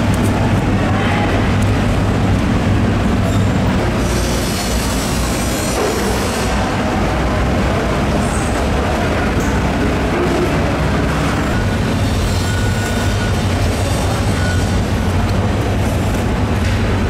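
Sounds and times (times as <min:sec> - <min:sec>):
low machinery rumble: 0:00.0 - 0:17.0.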